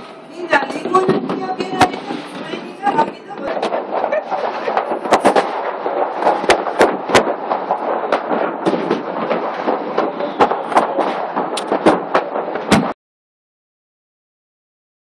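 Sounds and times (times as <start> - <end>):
firecracker bangs: 0.0 - 13.0
fireworks crackling: 0.0 - 13.0.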